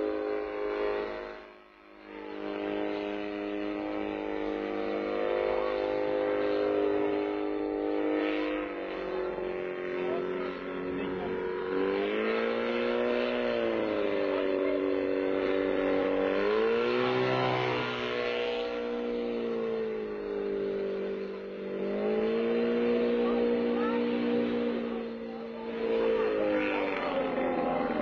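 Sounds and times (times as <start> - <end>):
gyrocopter engine droning: 0.0 - 28.0.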